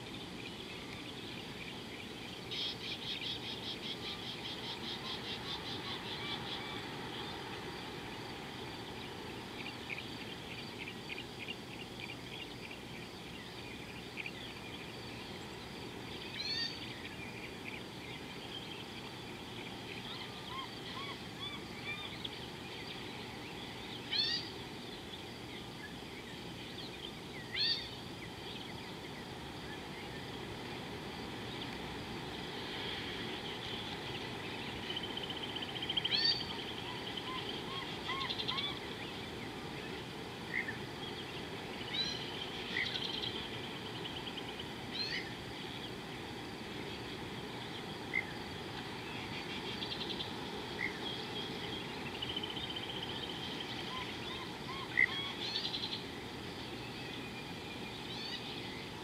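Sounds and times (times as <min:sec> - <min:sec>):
outdoor hiss: 0:00.0 - 0:59.0.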